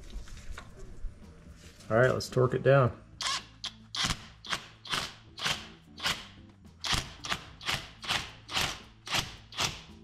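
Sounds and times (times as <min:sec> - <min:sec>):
background music: 0:00.3 - 0:10.0.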